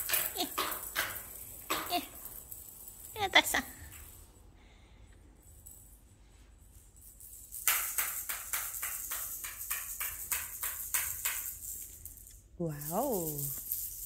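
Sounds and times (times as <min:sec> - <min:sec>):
toy rattle shaken rhythmically: 0:00.0 - 0:04.4, 0:06.6 - 0:14.0.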